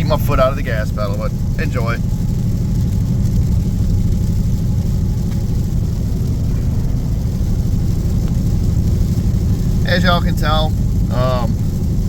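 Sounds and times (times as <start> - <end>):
car engine and tyre drone: 0.0 - 12.0.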